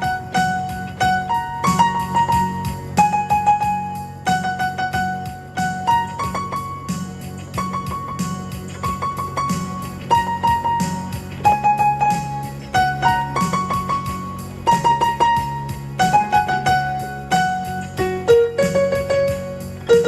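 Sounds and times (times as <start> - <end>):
instrumental keyboard music: 0.0 - 20.0.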